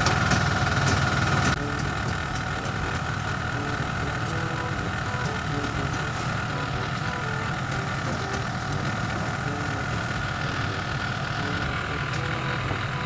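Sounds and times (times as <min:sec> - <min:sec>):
machine running with low rumble: 0:00.0 - 0:13.0.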